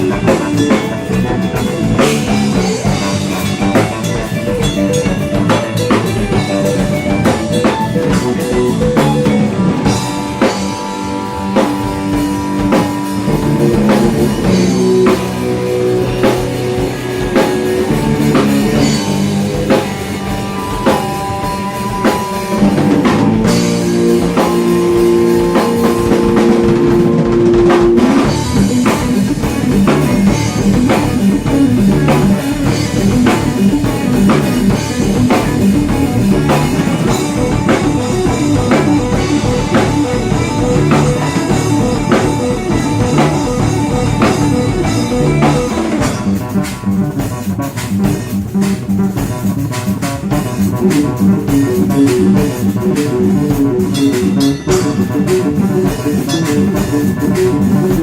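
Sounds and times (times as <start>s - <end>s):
busy drum kit: 0.0s - 58.0s
electric guitar: 0.0s - 58.0s.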